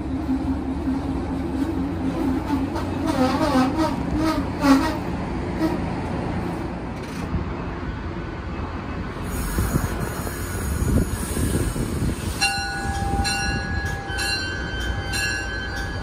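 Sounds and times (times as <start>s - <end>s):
train rumbling slowly: 0.0s - 16.0s.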